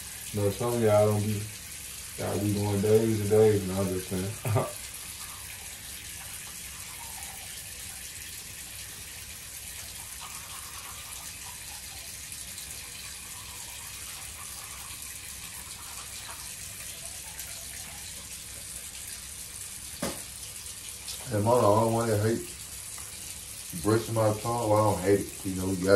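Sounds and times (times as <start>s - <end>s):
sink tap running: 0.0s - 25.9s.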